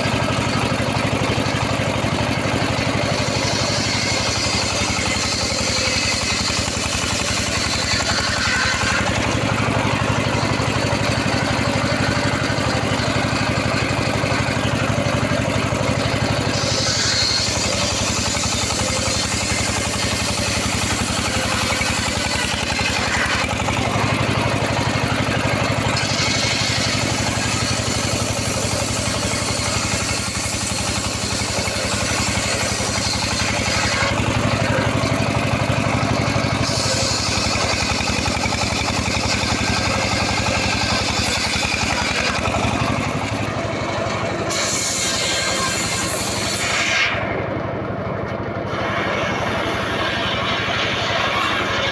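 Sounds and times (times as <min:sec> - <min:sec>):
engine-driven saw cutting wood: 0:00.0 - 0:51.9.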